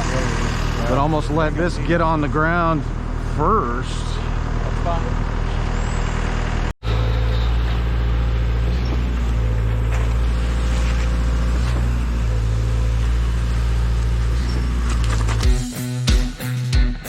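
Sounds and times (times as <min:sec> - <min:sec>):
diesel truck engine running: 0:00.0 - 0:16.1.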